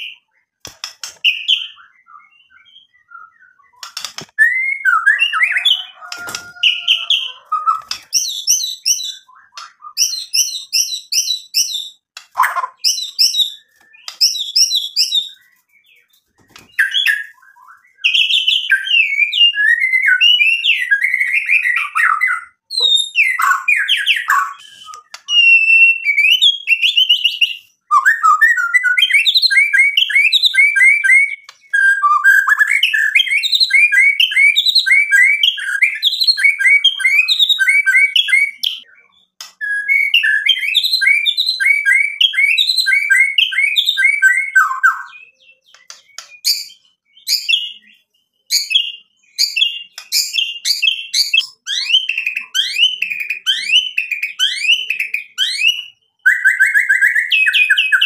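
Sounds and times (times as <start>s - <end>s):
bird singing whistled notes: 1.2s - 58.0s.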